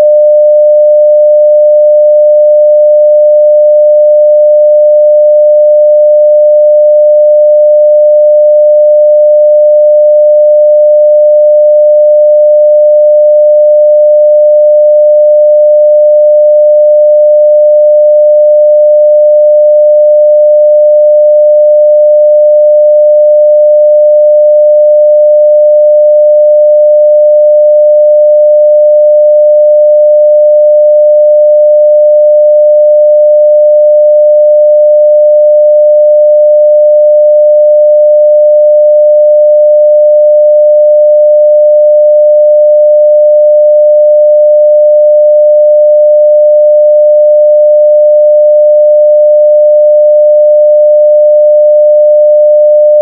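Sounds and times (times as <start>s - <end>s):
sine-wave test tone: 0.0s - 53.0s.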